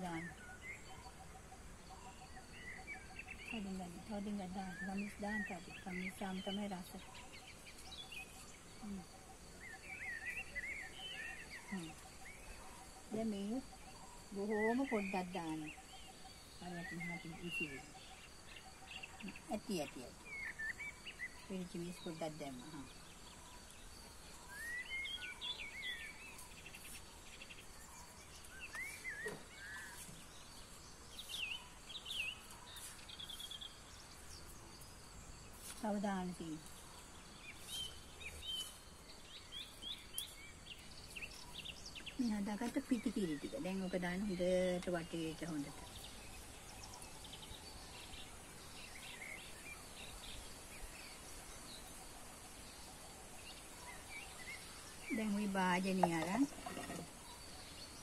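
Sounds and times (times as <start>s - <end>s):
faint bird chirps: 0.0s - 58.0s
faint insect hum: 0.0s - 58.0s
outdoor background hiss: 0.0s - 58.0s.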